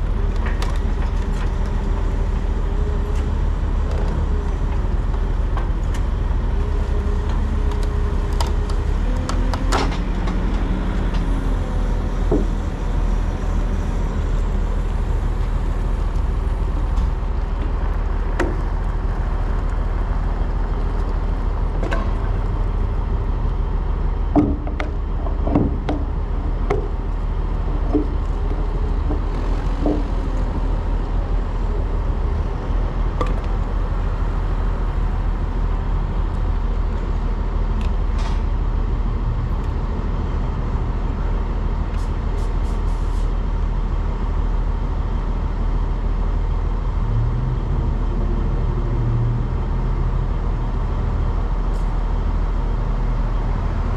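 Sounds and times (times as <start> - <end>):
road noise: 0.0 - 53.9.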